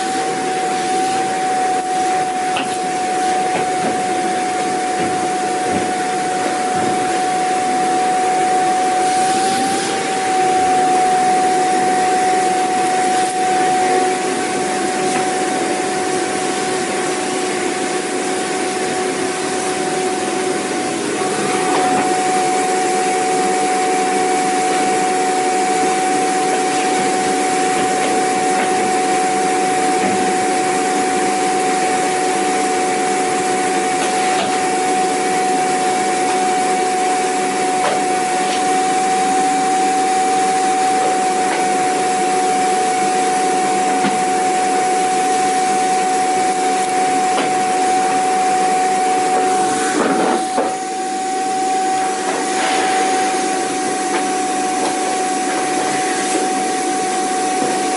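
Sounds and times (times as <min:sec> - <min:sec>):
vacuum cleaner running: 0:00.0 - 0:57.9.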